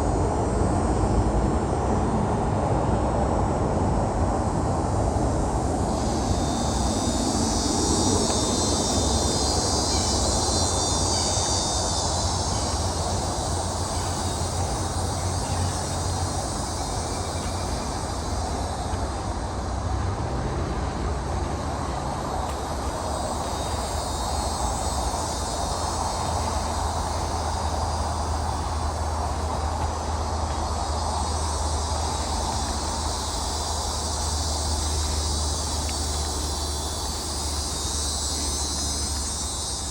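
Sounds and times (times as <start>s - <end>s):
insects trilling: 3.9s - 39.9s.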